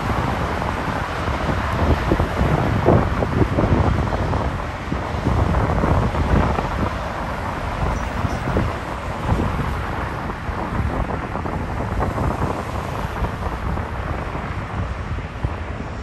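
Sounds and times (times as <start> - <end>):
road traffic rumble: 0.0 - 16.0
wind buffeting microphone: 0.0 - 16.0.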